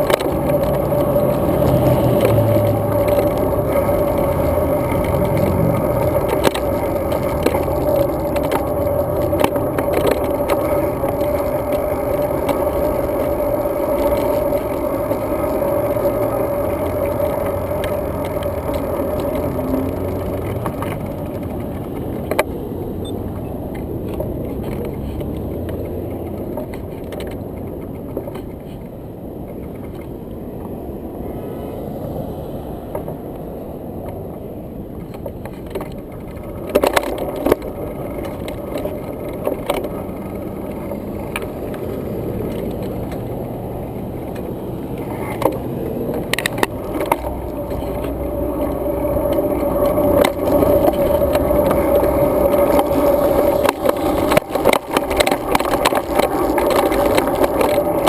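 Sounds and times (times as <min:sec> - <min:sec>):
bike clicks and knocks: 0:00.0 - 0:30.9, 0:32.8 - 0:58.0
wind and tyre rolling noise: 0:00.0 - 0:58.0.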